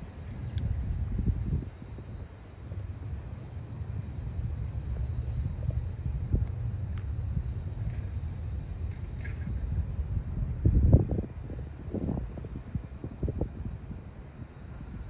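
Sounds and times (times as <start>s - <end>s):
low uneven rumble: 0.0s - 12.5s
crickets chirping: 0.0s - 15.0s.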